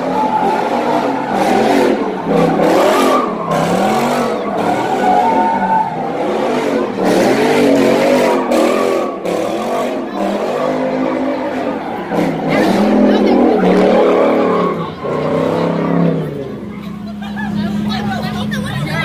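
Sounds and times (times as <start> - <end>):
car engine revving hard: 0.0 - 16.7
tyres screeching: 0.0 - 17.8.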